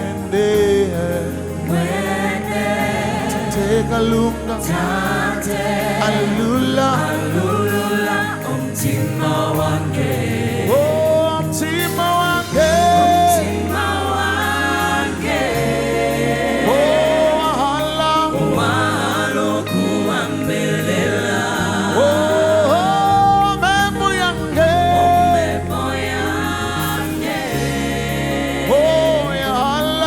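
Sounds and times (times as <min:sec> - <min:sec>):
backing singers: 0:00.0 - 0:30.0
band playing: 0:00.0 - 0:30.0
bass line: 0:00.0 - 0:30.0
lead singer vocal runs: 0:00.0 - 0:30.0.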